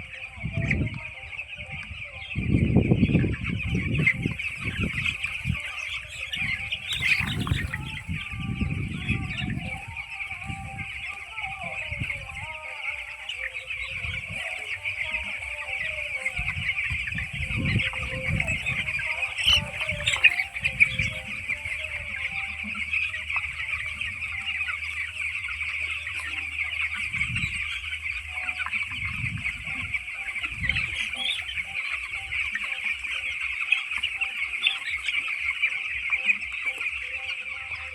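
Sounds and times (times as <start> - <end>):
chicks peeping: 0.0 - 37.9.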